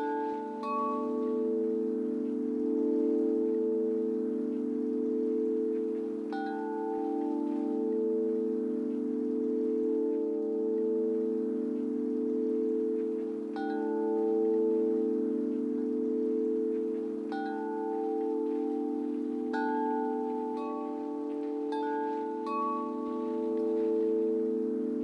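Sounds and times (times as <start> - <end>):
chimes ringing: 0.0 - 25.0.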